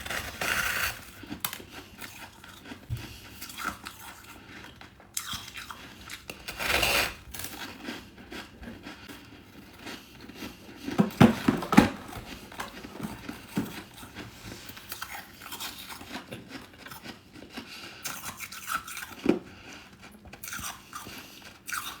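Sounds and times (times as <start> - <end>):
crunching frost being chewed: 0.0 - 11.0, 11.7 - 22.0.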